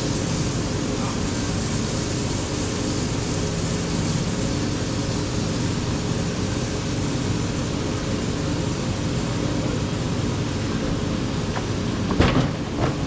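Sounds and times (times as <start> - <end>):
sawmill gas engine running: 0.0 - 13.0.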